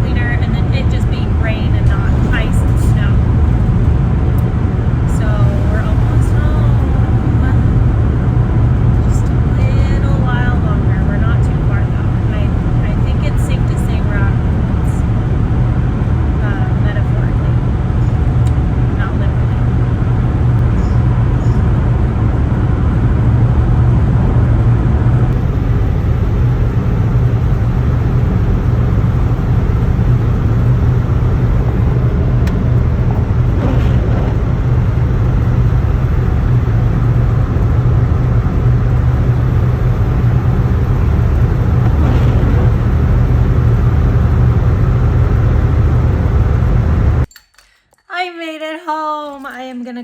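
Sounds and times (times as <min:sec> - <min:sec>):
van road and engine noise: 0:00.0 - 0:47.3.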